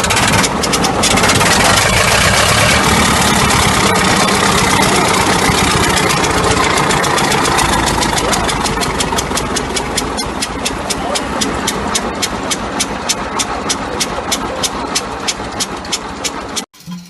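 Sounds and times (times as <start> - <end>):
old diesel engine clattering: 0.0 - 17.0.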